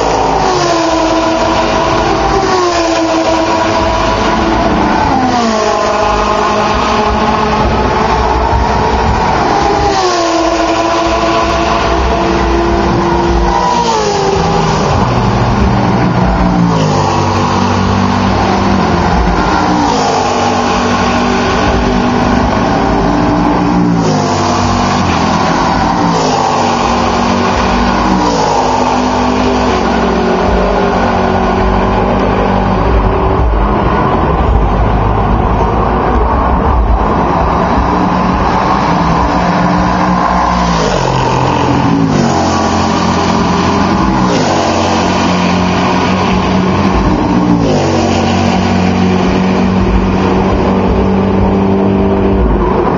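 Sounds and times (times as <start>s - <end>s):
continuous loud engine sound: 0.0s - 52.9s
race cars passing at full throttle: 0.0s - 52.9s.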